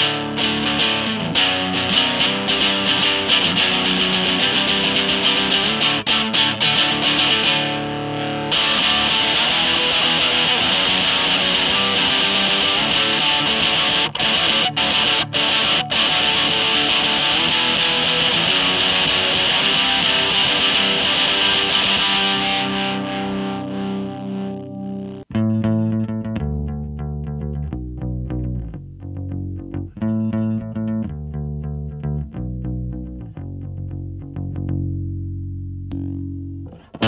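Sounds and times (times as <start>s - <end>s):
fuzzy electric guitar chords: 0.0s - 37.0s.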